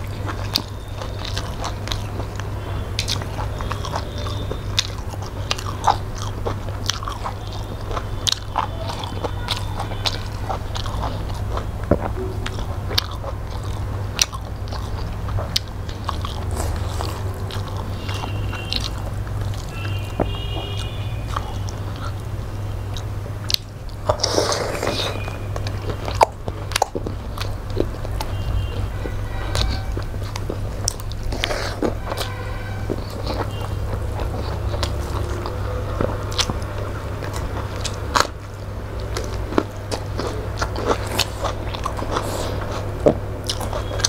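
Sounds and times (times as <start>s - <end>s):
wet chewing and mouth smacks: 0.0s - 44.0s.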